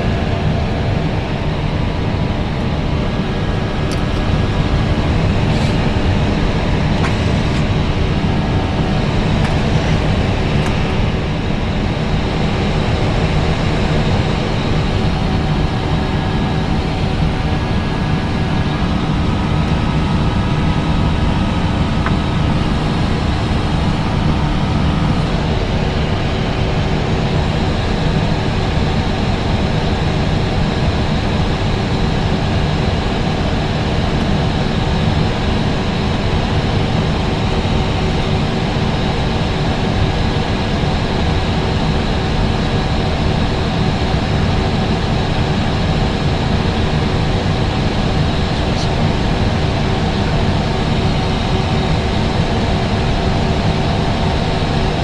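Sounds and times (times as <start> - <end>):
jet engines rumbling: 0.0 - 55.0
steady engine tones: 0.0 - 55.0.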